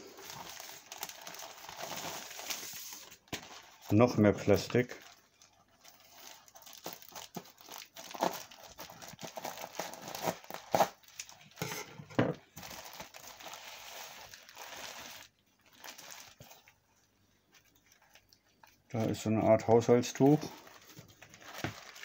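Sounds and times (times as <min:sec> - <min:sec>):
bubble wrap crinkling: 0:00.0 - 0:11.6, 0:12.4 - 0:22.0.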